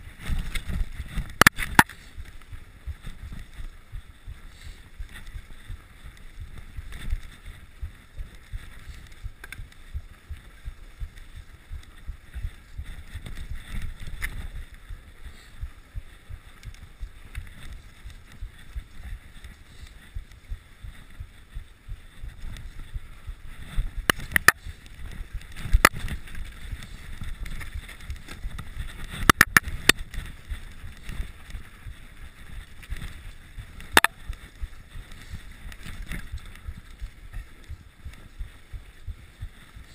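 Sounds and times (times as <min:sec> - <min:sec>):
bike rattling over bumps: 0:00.0 - 0:39.9
bike tyres rumbling on snow: 0:00.0 - 0:39.9.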